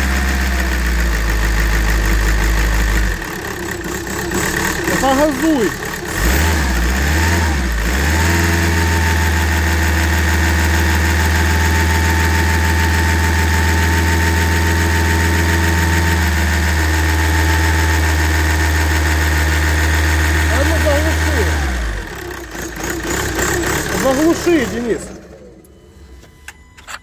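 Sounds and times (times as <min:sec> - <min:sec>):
diesel engine running: 0:00.0 - 0:26.6.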